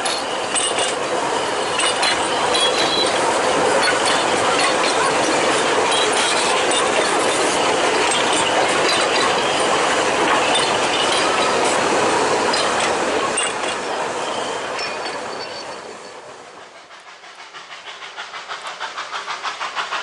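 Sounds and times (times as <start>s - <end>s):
train wheel clicks: 0.0s - 14.0s, 16.7s - 20.0s.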